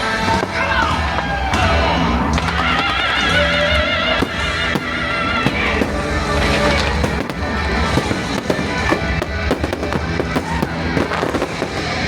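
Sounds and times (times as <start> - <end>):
fireworks popping and banging: 0.0 - 12.0
loud music: 0.0 - 12.0.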